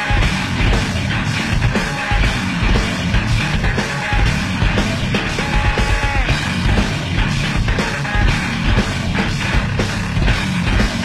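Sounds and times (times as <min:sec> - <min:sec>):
instrumental rock music: 0:00.0 - 0:11.0.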